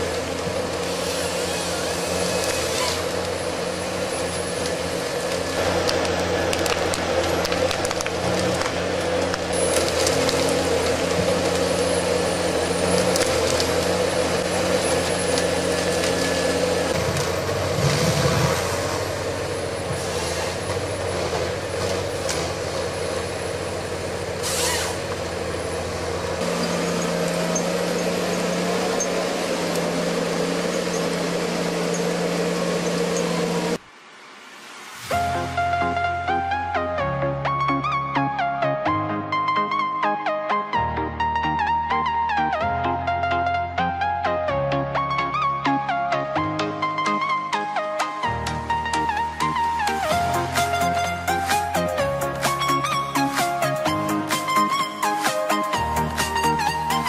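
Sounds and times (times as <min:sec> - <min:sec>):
excavator diesel engine and hydraulics: 0:00.0 - 0:57.0.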